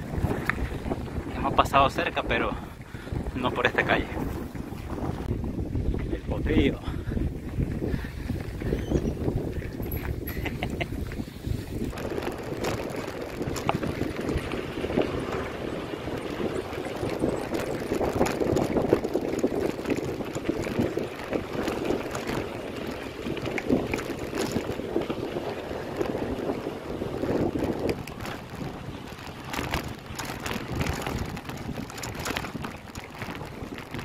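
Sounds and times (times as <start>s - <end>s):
bike tyres rumbling on gravel: 0.0s - 34.0s
wind noise on microphone: 0.0s - 34.0s
bike clicks and rattles: 0.1s - 1.2s, 7.4s - 34.0s.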